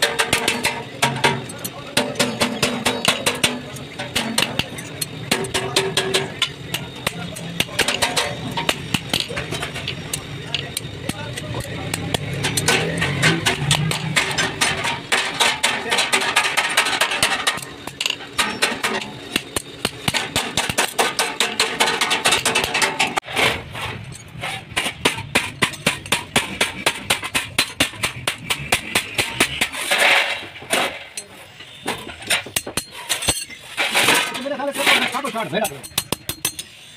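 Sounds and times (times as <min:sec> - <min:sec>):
hammer striking sheet metal: 0:00.0 - 0:23.6, 0:24.7 - 0:31.3.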